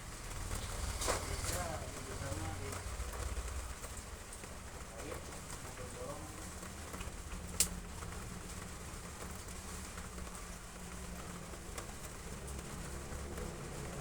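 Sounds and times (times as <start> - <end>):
heavy rain on roof tiles: 0.0 - 14.0.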